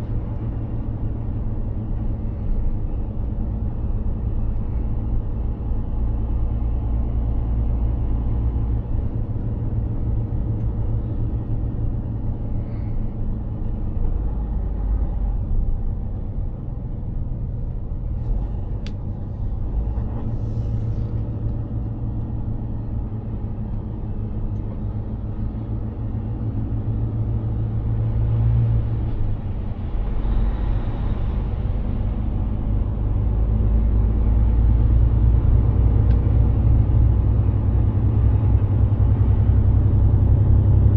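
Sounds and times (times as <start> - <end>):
road noise: 0.0 - 40.9
truck diesel engine droning: 0.0 - 40.9.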